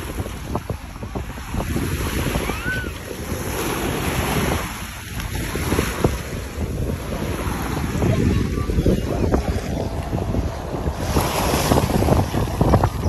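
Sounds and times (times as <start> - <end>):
small waves washing onto sand: 0.0 - 13.0
wind buffeting microphone: 0.0 - 13.0.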